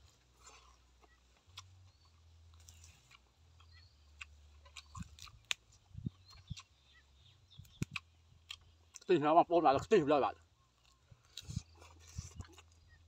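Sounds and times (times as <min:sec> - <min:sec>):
person chewing food: 0:00.0 - 0:09.1, 0:10.7 - 0:13.0.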